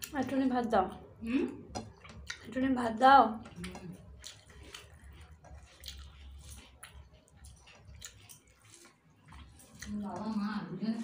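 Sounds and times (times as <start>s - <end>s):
fingers mixing rice: 1.6s - 11.0s.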